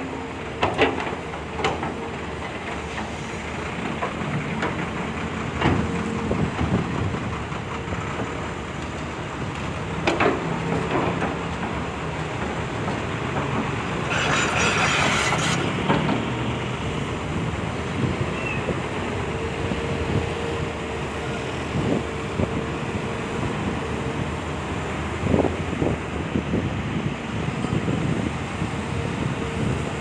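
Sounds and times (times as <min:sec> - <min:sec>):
excavator diesel engine under load: 0:00.0 - 0:30.0.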